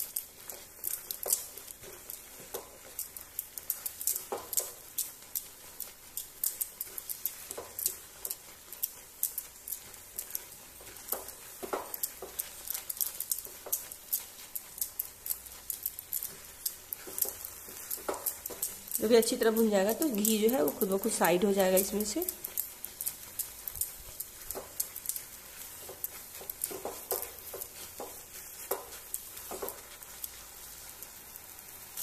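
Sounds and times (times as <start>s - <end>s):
spatula scraping in pan: 0.0s - 32.0s.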